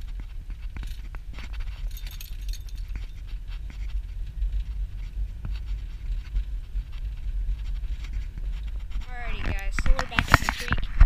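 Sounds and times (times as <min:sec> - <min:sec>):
car road rumble from inside: 0:00.0 - 0:11.0
light clicks and rattles: 0:00.0 - 0:11.0.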